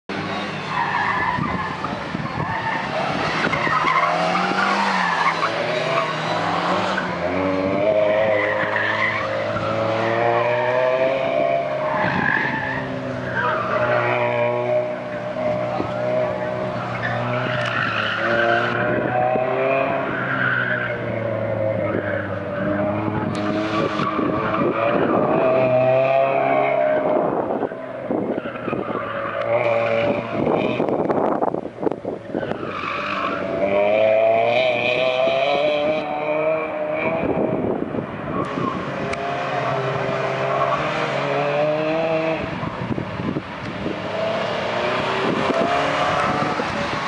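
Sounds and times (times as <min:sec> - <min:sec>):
tires squealing: 0:00.1 - 0:47.0
car engine revving hard: 0:01.4 - 0:20.2, 0:20.8 - 0:31.5, 0:32.4 - 0:47.0.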